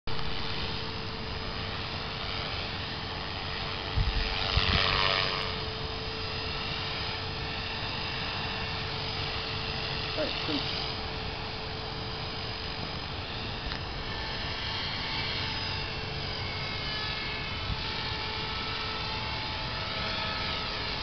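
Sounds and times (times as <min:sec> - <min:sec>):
rc helicopter motor whine: 0:00.1 - 0:21.0.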